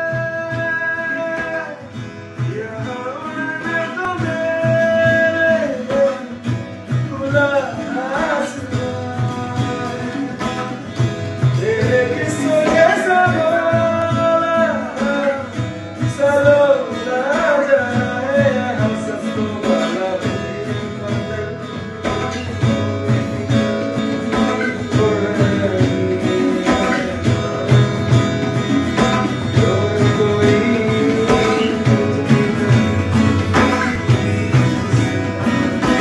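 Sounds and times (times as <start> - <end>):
acoustic guitar chords: 0.0 - 36.0
person singing: 0.0 - 36.0
tabla strokes: 0.0 - 36.0.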